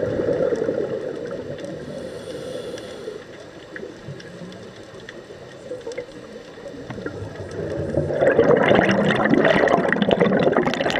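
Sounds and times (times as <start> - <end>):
underwater regulator bubbles: 0.0 - 10.9.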